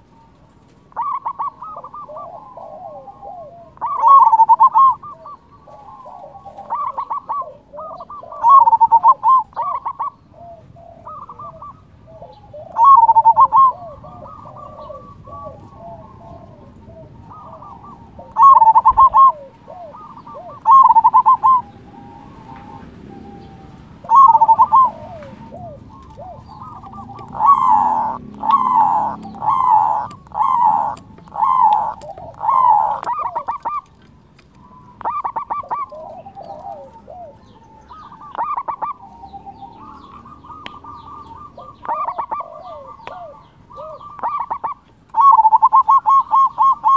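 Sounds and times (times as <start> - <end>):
dove staccato cooing song: 0.0 - 46.9
soft dove cooing: 0.0 - 46.9.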